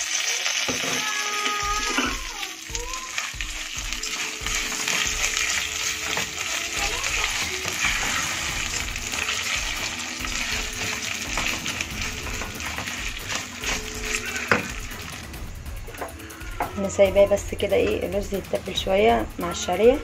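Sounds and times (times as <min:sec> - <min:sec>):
rice sizzling in hot oil: 0:00.0 - 0:17.0.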